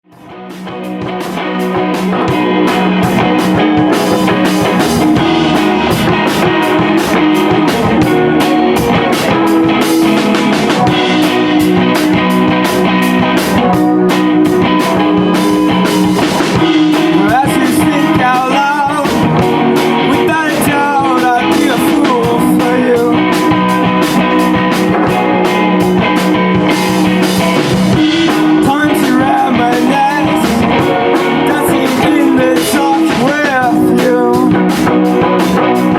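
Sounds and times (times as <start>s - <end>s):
electric guitar: 0.0s - 35.9s
drum kit fast beat: 0.1s - 35.9s.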